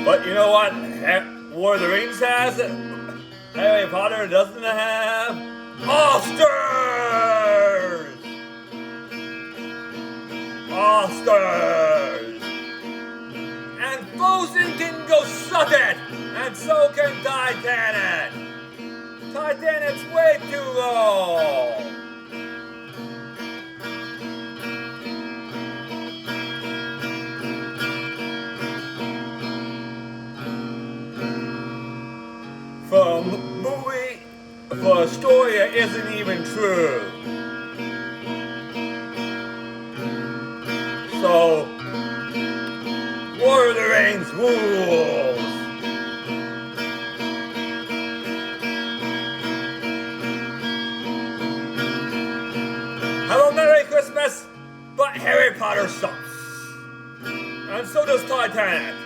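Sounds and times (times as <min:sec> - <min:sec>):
acoustic guitar plucking: 0:00.0 - 0:59.0.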